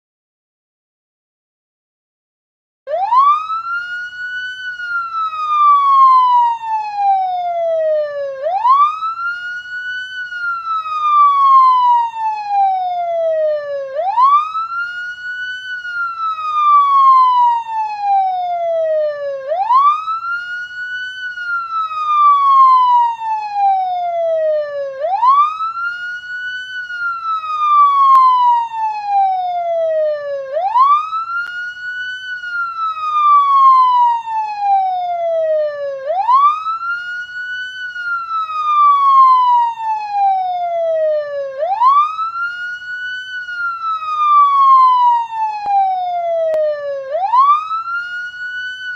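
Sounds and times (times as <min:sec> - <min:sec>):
police siren wailing: 0:02.9 - 0:48.9.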